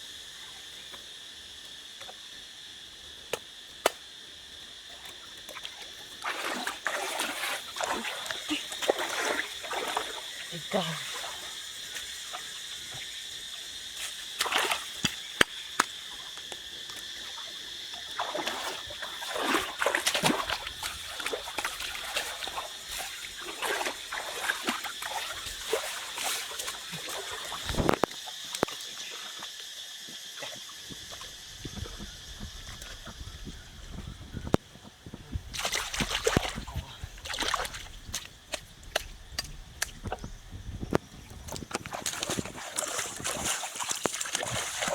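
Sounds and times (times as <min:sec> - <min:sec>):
water splashing and sloshing: 0:04.9 - 0:44.9.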